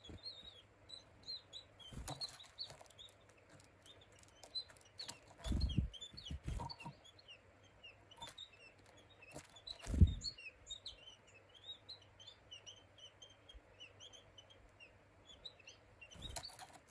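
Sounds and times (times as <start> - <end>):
songbirds chirping: 0.0 - 16.9.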